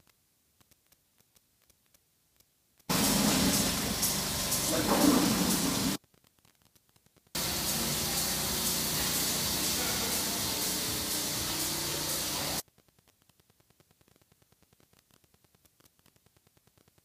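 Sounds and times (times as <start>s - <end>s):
room noise hiss: 0.0s - 17.0s.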